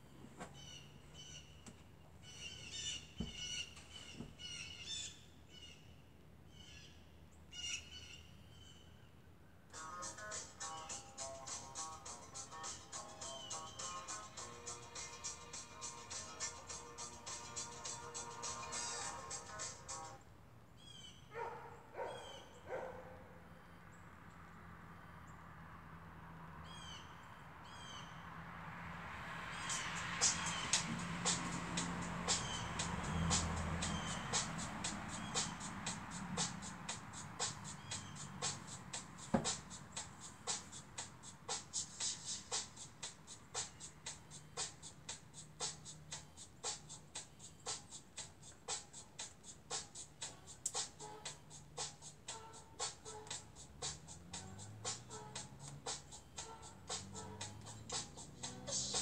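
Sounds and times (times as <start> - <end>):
birds chirping: 0.0 - 9.0, 9.7 - 24.1, 29.5 - 59.0.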